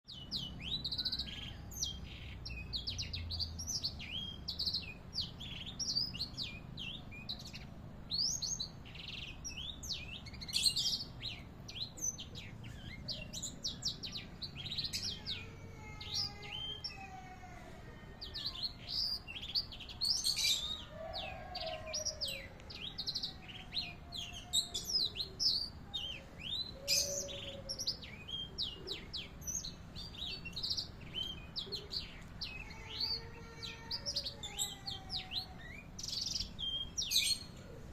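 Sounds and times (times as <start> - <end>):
songbird chirping and trilling: 0.0 - 37.9.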